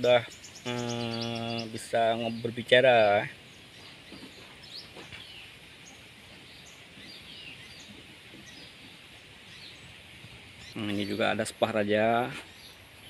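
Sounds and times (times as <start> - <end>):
faint bird chirps: 0.0 - 13.0
outdoor background noise: 0.0 - 13.0.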